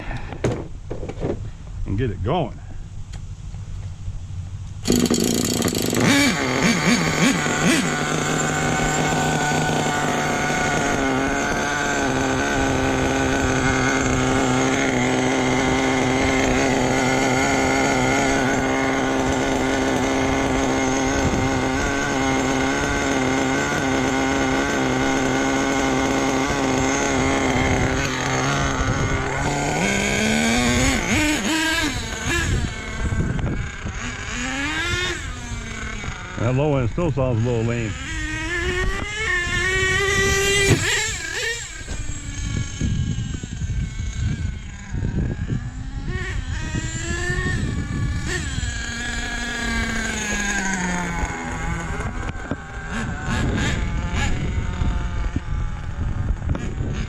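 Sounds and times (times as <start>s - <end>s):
small engine idling and revving: 3.2s - 57.0s.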